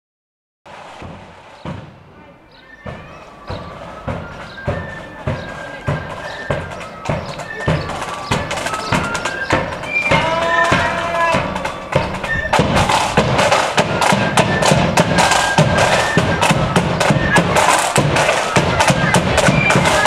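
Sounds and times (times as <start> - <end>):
bass drum beat: 0.7 - 20.0
rapid side drum strokes: 0.7 - 20.0
flute melody: 2.2 - 20.0.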